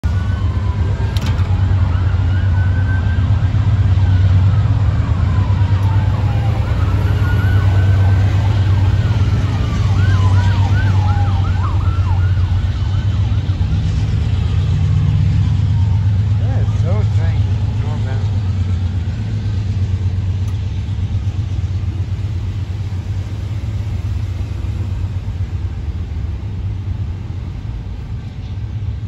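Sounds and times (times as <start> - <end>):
emergency vehicle siren: 0.0 - 29.0
low engine rumble: 0.0 - 29.0.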